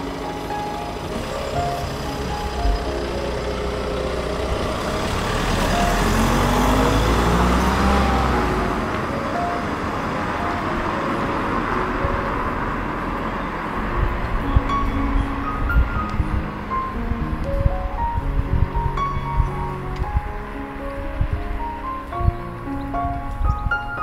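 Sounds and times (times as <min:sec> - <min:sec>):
car driving past: 0:00.0 - 0:23.9
light background music: 0:00.0 - 0:24.0.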